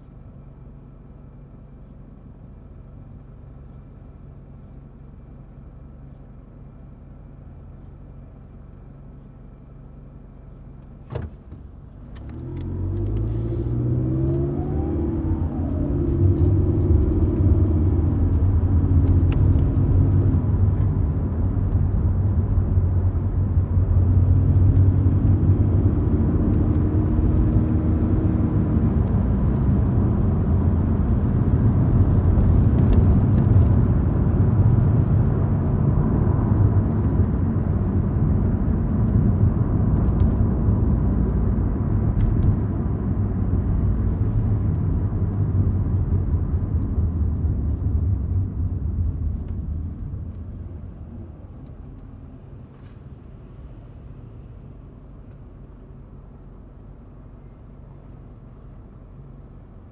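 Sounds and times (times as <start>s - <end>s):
car engine rumble: 0.0s - 59.9s
road noise: 0.0s - 59.9s.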